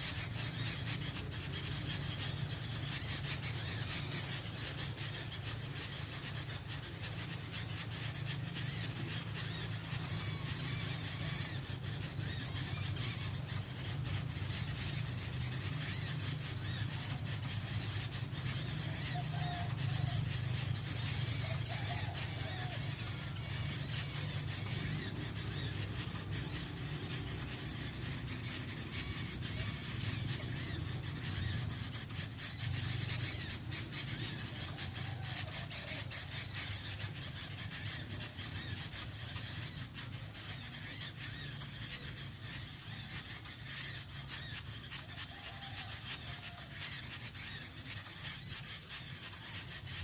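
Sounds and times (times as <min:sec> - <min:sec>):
small birds chirping: 0:00.0 - 0:50.0
steady low hum: 0:00.0 - 0:50.0.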